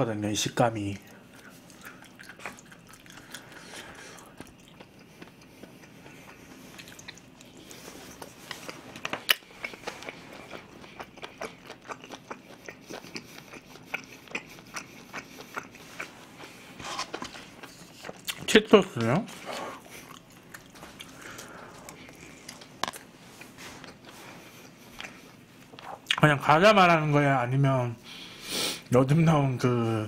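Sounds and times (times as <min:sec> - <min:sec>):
person chewing food: 0:00.8 - 0:26.2.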